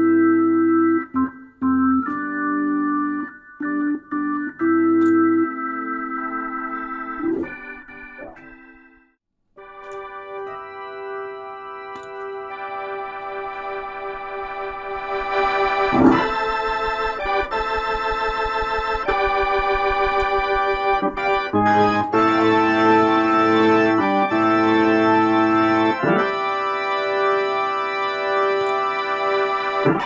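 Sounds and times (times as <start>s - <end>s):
organ chords through rotating speaker: 0.0s - 30.0s.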